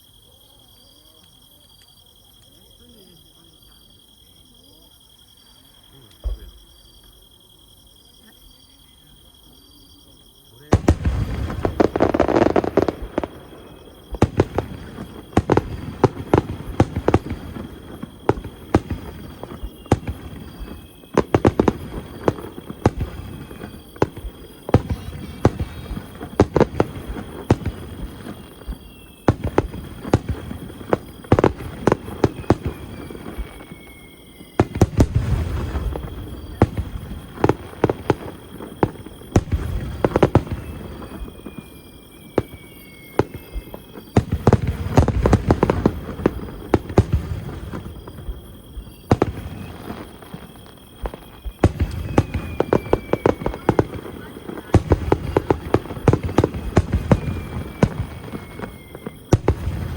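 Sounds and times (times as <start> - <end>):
fireworks bangs and crackles: 5.8 - 7.9, 9.1 - 59.9
deep fireworks booms: 6.1 - 7.4, 10.5 - 59.9.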